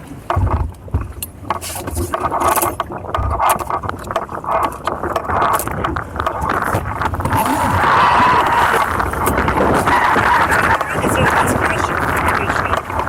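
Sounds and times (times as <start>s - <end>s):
water rushing: 0.0s - 13.0s
wind: 0.0s - 13.0s.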